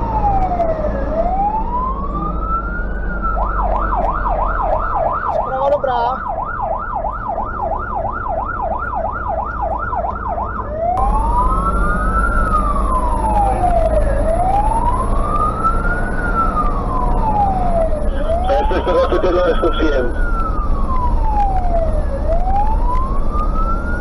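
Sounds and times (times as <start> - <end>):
diesel engine droning: 0.0 - 24.0
fire engine siren: 0.0 - 24.0.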